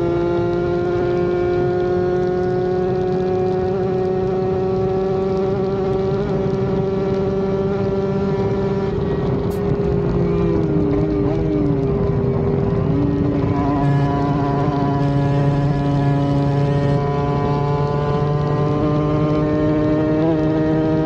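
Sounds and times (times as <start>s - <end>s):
motorcycle engine at high revs: 0.0s - 21.0s
wind noise: 0.0s - 21.0s.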